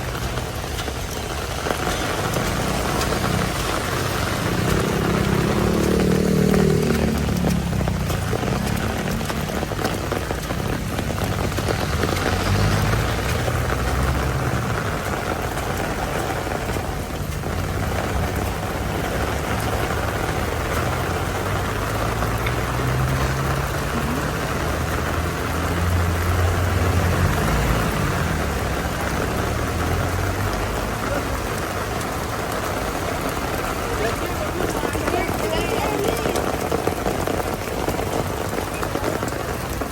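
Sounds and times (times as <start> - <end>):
heavy rain falling: 0.0 - 39.9
vehicle engines humming: 0.0 - 39.9.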